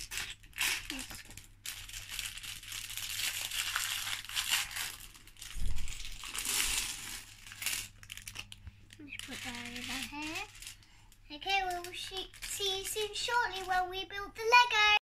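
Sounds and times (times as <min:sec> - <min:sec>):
plastic bags crinkling: 0:00.0 - 0:14.6.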